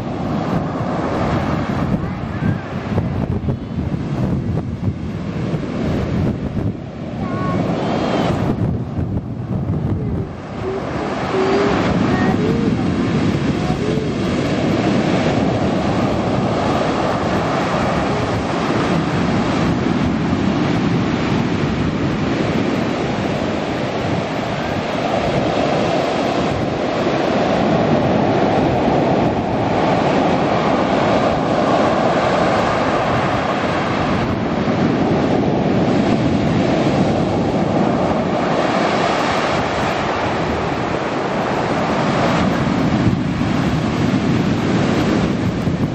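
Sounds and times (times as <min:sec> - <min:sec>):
waves breaking on beach: 0:00.0 - 0:45.9.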